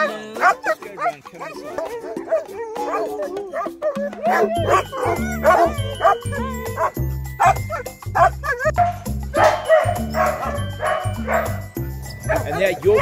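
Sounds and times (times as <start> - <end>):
background music with steady beat: 0.0 - 13.0
dogs barking and yipping: 0.0 - 13.0.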